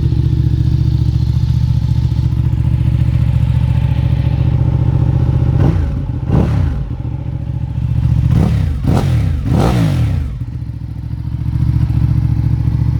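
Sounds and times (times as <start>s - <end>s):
motorcycle engine idling: 0.0s - 12.9s
motorcycle engine revving: 0.0s - 12.9s.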